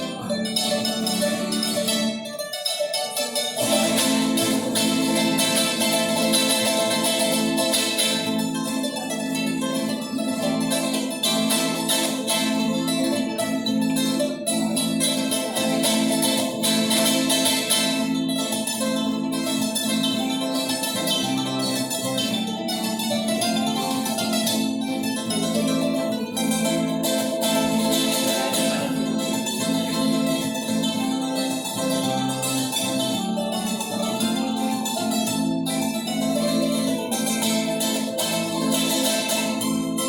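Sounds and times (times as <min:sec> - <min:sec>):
plucked string instruments: 0:00.0 - 0:40.0.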